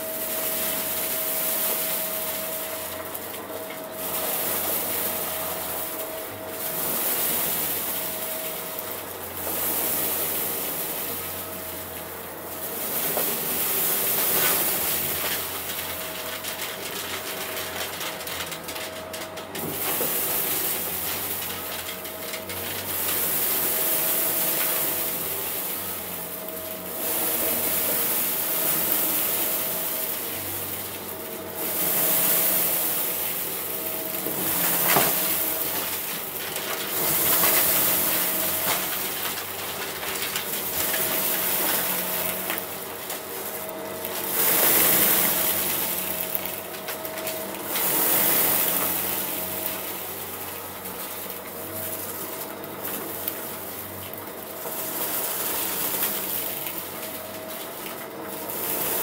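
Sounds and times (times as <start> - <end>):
upright vacuum running over carpet: 0.0 - 59.0.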